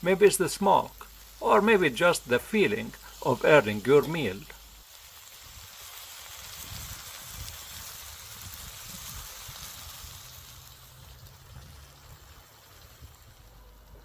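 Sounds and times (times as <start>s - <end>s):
meat sizzling in a pan: 0.0s - 13.6s
faint crackles: 0.0s - 14.0s.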